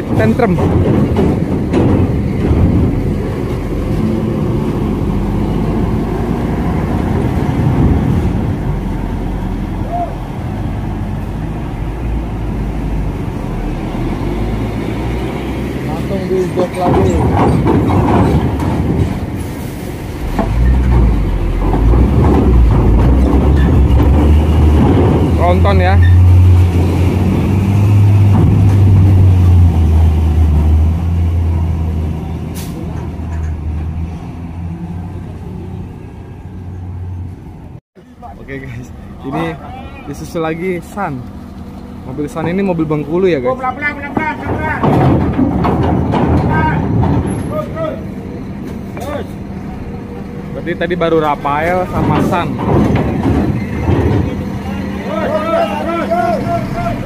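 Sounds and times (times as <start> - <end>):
bus diesel engine rumbling: 0.0 - 57.0.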